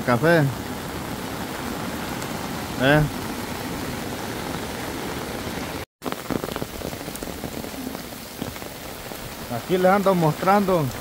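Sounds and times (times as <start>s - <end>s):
flooded river rushing: 0.0s - 11.0s
heavy rain: 0.0s - 11.0s
raindrops ticking on umbrella: 0.9s - 11.0s.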